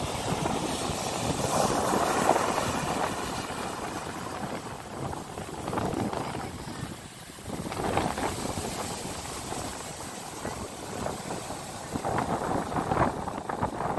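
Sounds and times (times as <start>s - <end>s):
sea surf breaking: 0.0s - 13.9s.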